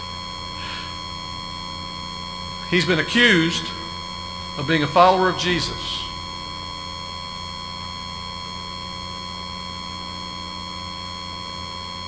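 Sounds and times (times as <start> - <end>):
electrical hum and buzz: 0.0 - 12.0.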